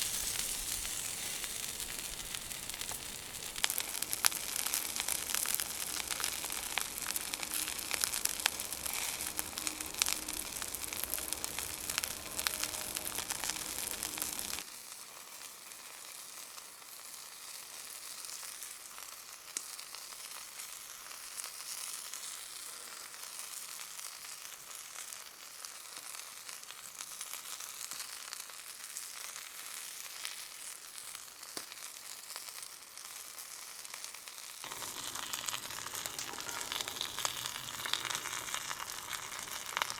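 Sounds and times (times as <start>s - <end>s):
food sizzling and crackling: 0.0s - 39.9s.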